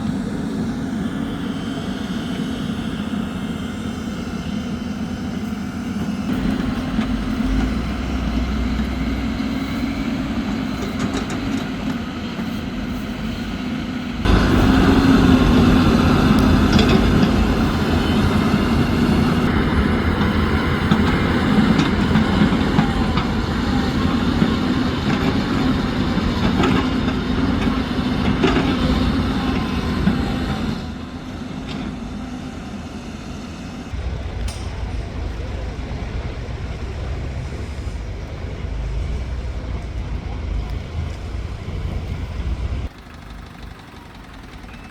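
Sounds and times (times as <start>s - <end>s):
heavy machine engine running: 0.0s - 44.9s.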